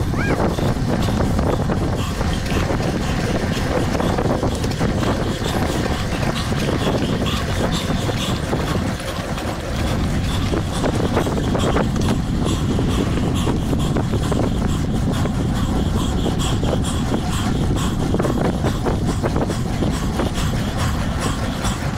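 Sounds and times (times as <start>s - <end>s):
wind rushing over microphone: 0.0s - 21.9s.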